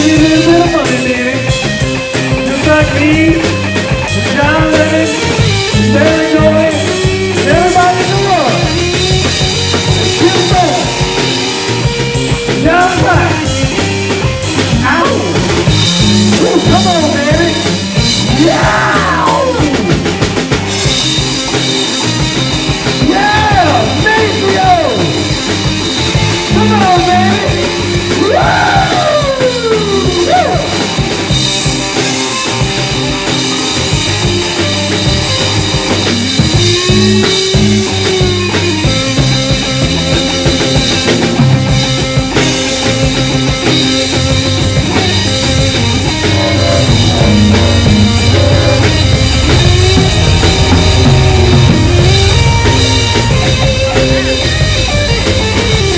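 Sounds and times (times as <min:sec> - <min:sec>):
bass guitar: 0:00.0 - 0:55.9
drum kit: 0:00.0 - 0:55.9
electric guitar: 0:00.0 - 0:55.9
gliding lead guitar: 0:00.0 - 0:55.9.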